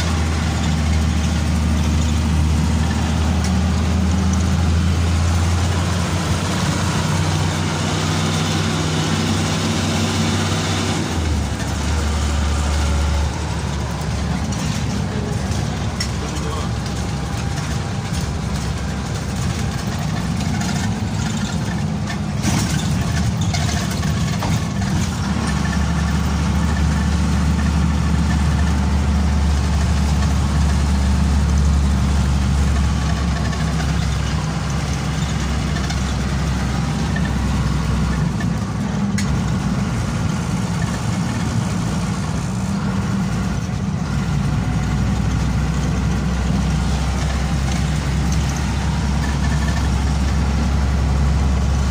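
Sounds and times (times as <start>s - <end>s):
bus engine running: 0.0s - 51.9s
tyre noise on the road: 0.0s - 51.9s.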